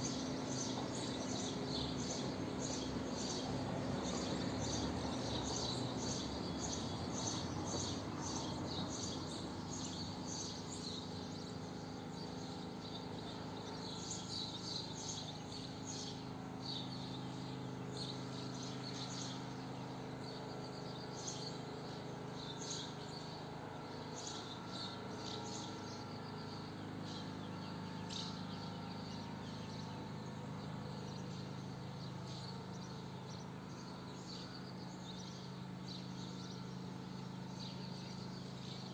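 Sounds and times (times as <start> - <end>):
steady low hum: 0.0 - 38.9
swallows twittering: 0.0 - 38.9.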